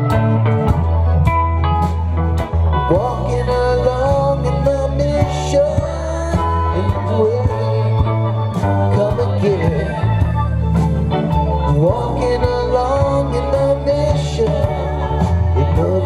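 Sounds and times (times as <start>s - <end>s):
bass guitar: 0.0s - 16.0s
drums: 0.0s - 16.0s
lead guitar with bent notes: 0.0s - 16.0s.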